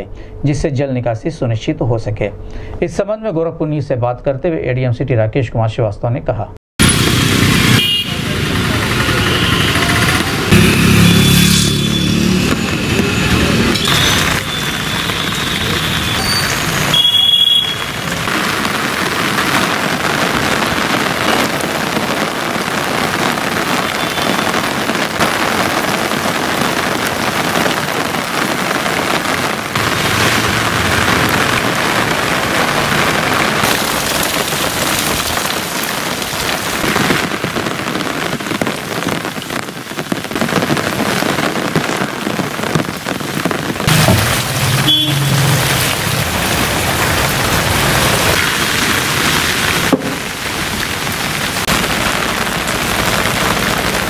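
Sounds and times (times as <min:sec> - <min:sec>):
heavy rain on streets: 0:06.8 - 0:54.0.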